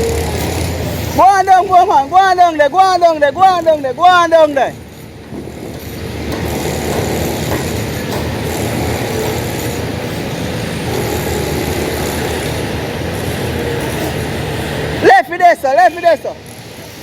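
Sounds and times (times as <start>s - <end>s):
dump truck diesel engine running: 0.0s - 17.0s.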